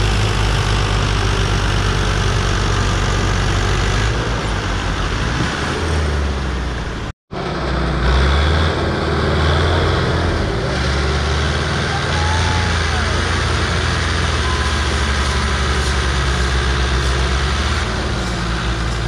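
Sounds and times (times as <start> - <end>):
tractor engines under heavy load: 0.0 - 19.0.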